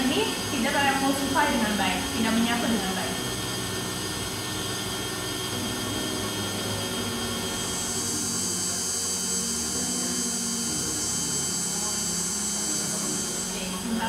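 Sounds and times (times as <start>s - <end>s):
stand mixer beating batter: 0.0s - 14.0s.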